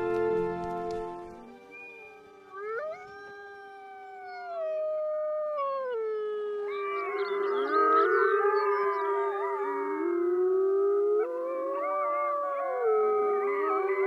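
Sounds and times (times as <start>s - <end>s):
wolves howling: 1.5s - 14.0s.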